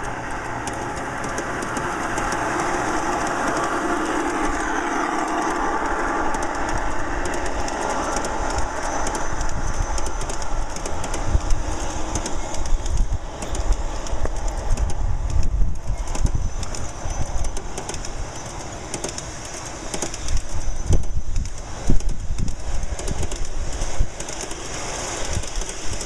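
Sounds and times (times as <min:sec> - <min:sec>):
model train wheels rumbling on rails: 0:00.0 - 0:26.0.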